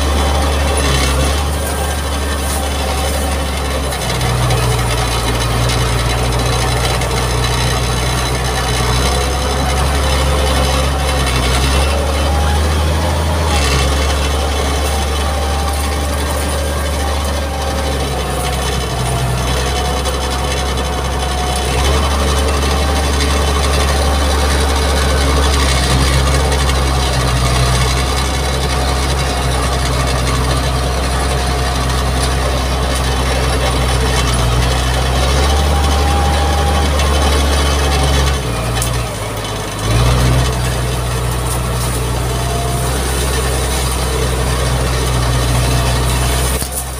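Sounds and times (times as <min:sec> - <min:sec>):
diesel engine droning: 0:00.0 - 0:46.9.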